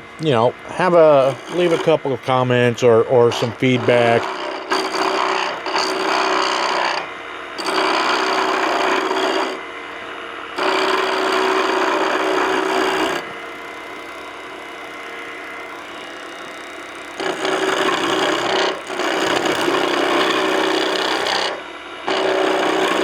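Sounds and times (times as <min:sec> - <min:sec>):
wood lathe running: 0:00.0 - 0:23.0
chisel scraping spinning wood: 0:00.2 - 0:23.0.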